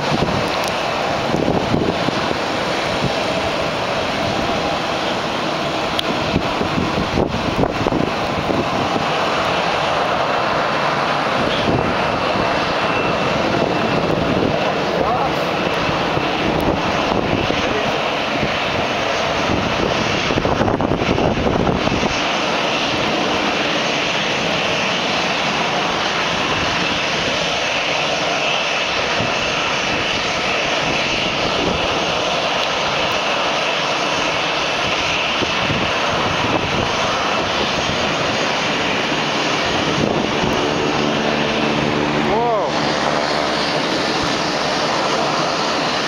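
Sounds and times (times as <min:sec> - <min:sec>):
jet engines whining at low power: 0:00.0 - 0:46.0.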